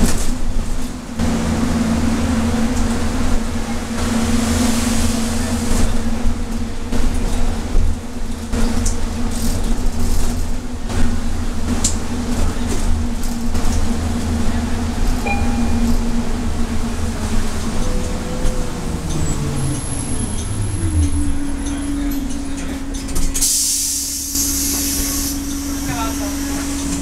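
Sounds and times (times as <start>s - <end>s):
bus engine drone: 0.0s - 27.0s.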